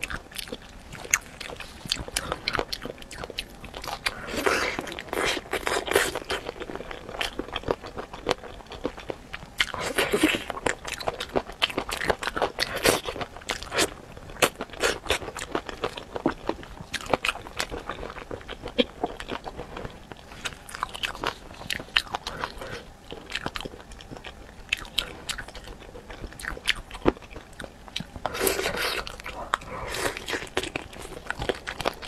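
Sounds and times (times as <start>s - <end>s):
chewing crackles: 0.0s - 32.0s.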